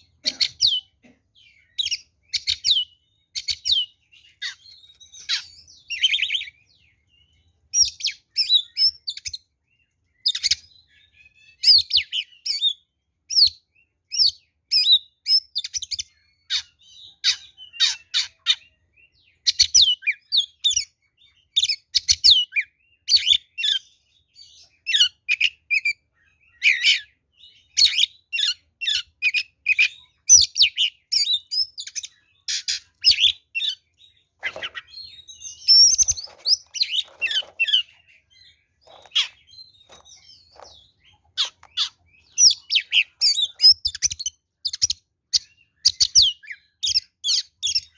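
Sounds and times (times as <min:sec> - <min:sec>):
bird singing whistles and trills: 0:00.4 - 0:47.9.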